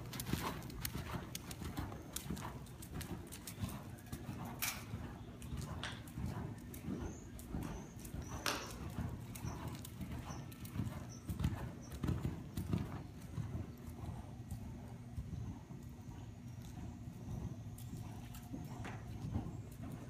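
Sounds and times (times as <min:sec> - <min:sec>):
muffled horse hoofbeats: 0:00.0 - 0:20.0.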